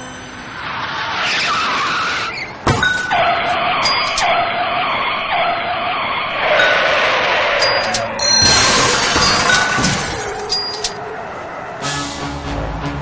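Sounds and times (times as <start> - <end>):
car tyres skidding: 0.6 - 12.4.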